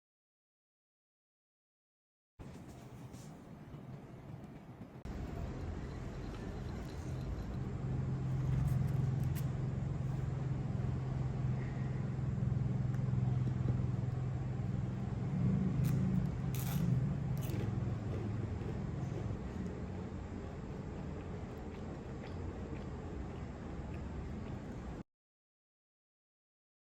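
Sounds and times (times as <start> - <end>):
low engine-like hum: 2.4 - 25.0.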